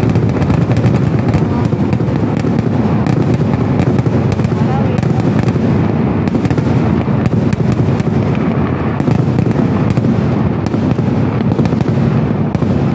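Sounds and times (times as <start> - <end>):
fireworks explosions rumbling: 0.0 - 12.9
sharp firework cracks: 0.0 - 12.9.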